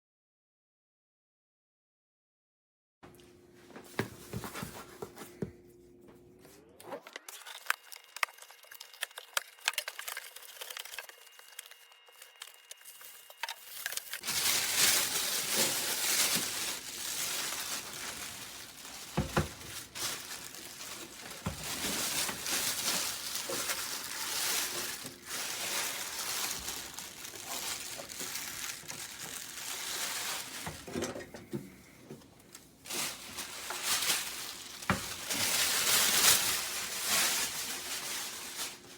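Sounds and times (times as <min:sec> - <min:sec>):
crinkling and rustling: 0:07.2 - 0:38.9.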